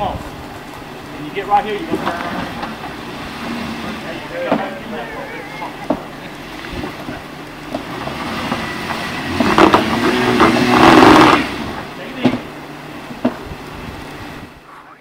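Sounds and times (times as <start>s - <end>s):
engine revving under load: 0.0s - 14.7s
tires scrabbling on dirt: 0.0s - 15.0s.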